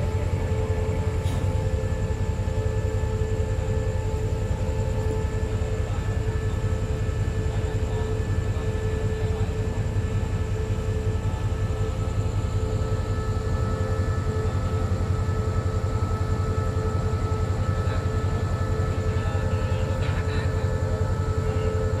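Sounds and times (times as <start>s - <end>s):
diesel train engine idling: 0.0s - 22.0s.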